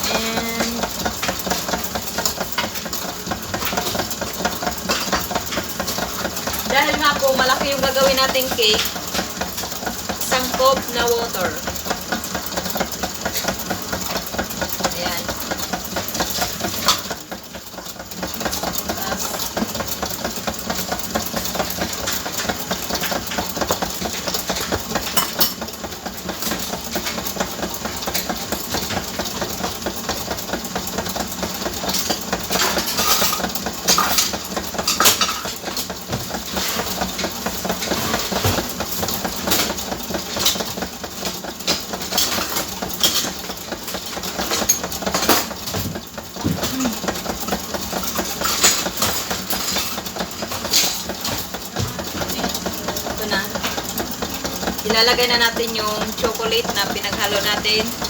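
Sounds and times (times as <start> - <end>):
electric mixer beating batter: 0.0 - 32.9, 33.5 - 58.0.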